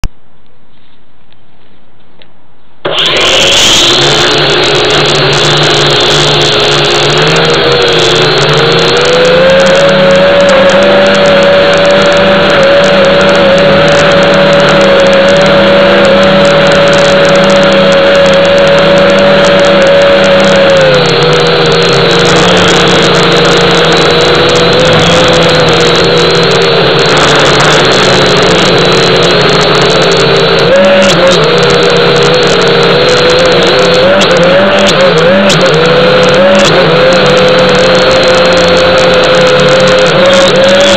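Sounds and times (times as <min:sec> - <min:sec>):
quadcopter motors whirring: 0:02.9 - 0:40.9.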